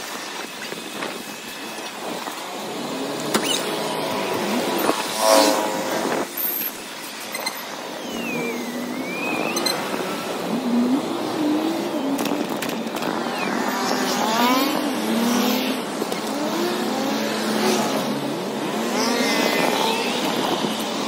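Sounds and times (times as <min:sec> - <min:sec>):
sped-up traffic passing: 0:00.0 - 0:21.0
engine tones gliding: 0:02.5 - 0:20.8.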